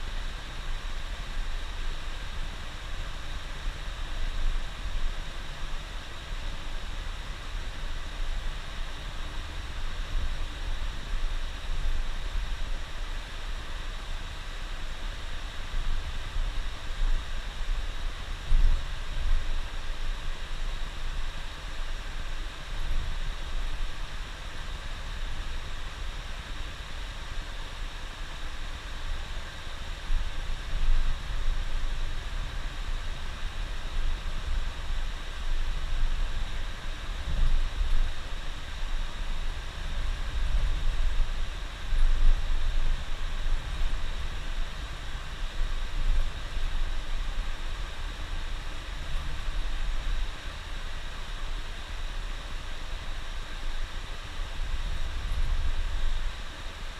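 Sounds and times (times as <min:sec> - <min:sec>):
even hiss: 0:00.0 - 0:56.9.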